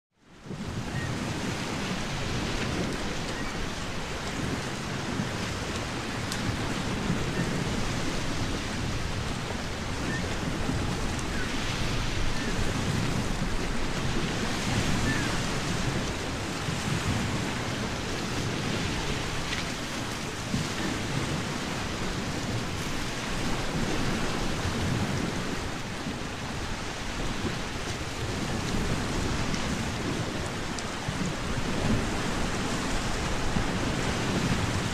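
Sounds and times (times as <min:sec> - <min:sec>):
rushing water: 0:00.2 - 0:34.9.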